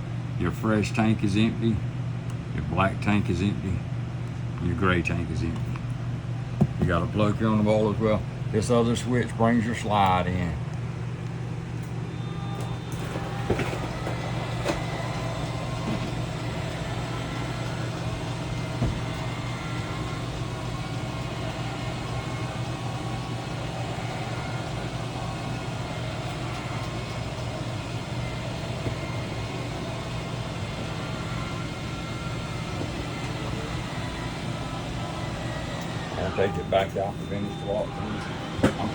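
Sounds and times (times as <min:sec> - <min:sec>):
low motor hum: 0:00.0 - 0:38.9.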